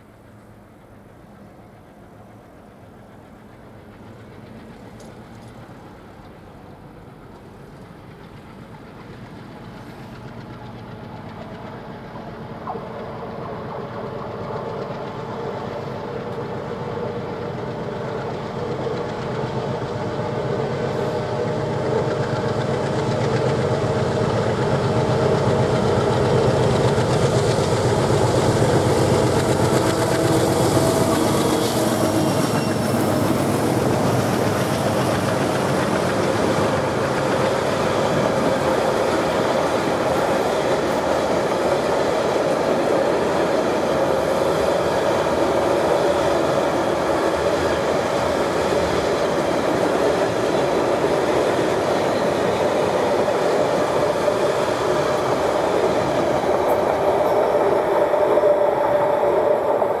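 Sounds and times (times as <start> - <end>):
diesel locomotive engine: 0.0 - 60.0
steel wheels on rails: 0.0 - 60.0.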